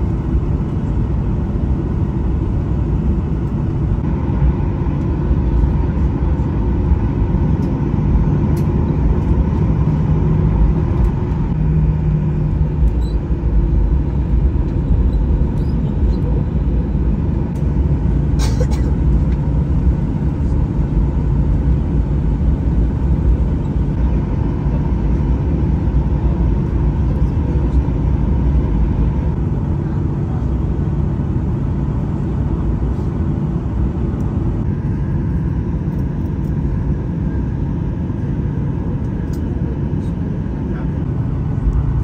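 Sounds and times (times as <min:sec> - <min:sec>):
jet engines idling: 0:00.0 - 0:42.0.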